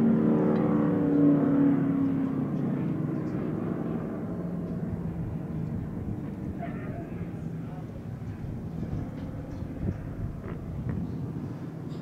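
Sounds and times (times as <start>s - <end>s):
car engine running hard: 0.0s - 11.6s.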